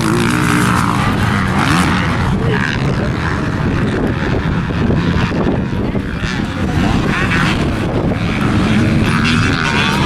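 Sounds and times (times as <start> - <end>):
dirt bike engine revving: 0.0 - 10.0
wind buffeting microphone: 0.0 - 10.0.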